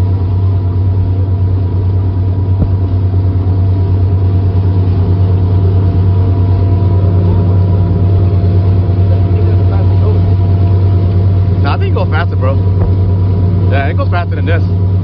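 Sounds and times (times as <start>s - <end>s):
speedboat engine drone: 0.0s - 15.0s.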